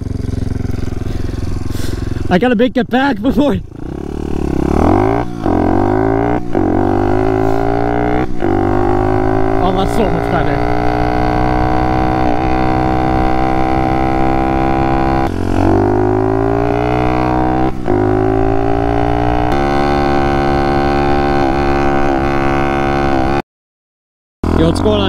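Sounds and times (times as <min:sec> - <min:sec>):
small motorbike engine accelerating: 0:00.0 - 0:02.3, 0:03.7 - 0:23.4.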